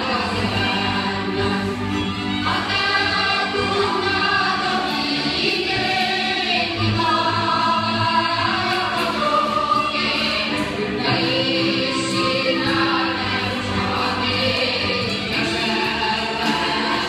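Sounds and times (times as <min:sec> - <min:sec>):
dance music: 0:00.0 - 0:17.0
group of voices singing: 0:00.0 - 0:17.0.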